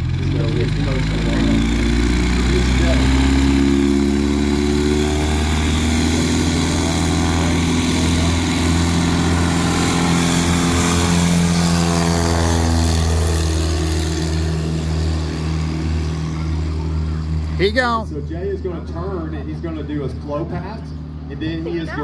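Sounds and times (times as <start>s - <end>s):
model plane engine and propeller drone: 0.0s - 22.0s.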